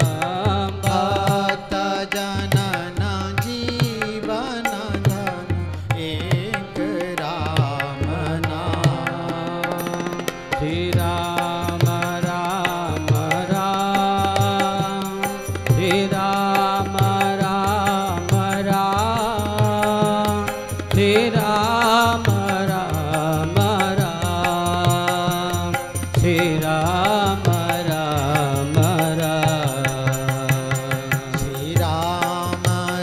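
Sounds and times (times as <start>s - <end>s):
harmonium melody: 0.0s - 33.0s
tabla beat: 0.0s - 33.0s.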